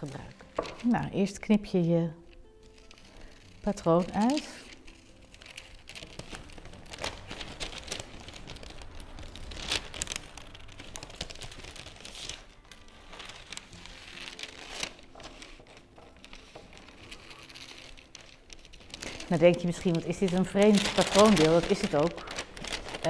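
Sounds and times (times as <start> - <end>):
paper rustling and crinkling: 0.0 - 1.2, 2.3 - 23.0
scissors snipping paper: 2.7 - 23.0.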